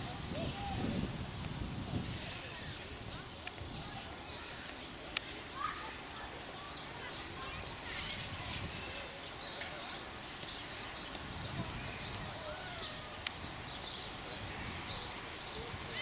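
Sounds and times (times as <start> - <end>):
faint background murmur: 0.0 - 16.0
small birds chirping: 1.7 - 16.0.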